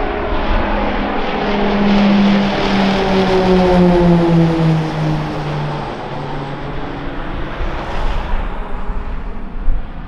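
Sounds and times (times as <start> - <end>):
propeller aircraft drone: 0.0 - 10.0.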